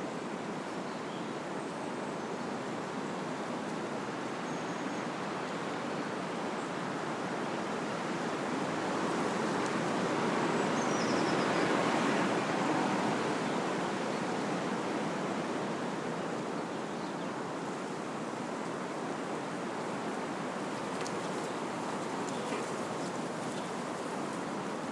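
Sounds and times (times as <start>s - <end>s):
wind through trees: 0.0s - 24.9s.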